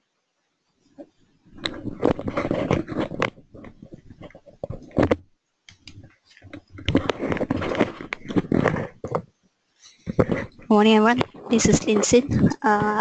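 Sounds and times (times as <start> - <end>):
rustling close to microphone: 1.0 - 5.2, 5.8 - 13.0.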